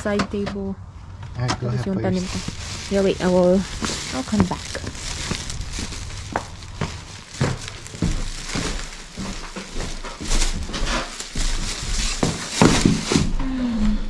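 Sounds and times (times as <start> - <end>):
belongings rustling and bumping: 0.0 - 13.4.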